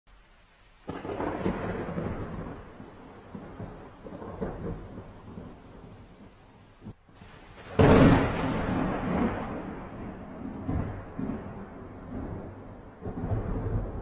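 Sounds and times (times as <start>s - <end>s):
thunder crack and rumbling: 0.9s - 6.2s, 6.8s - 14.0s.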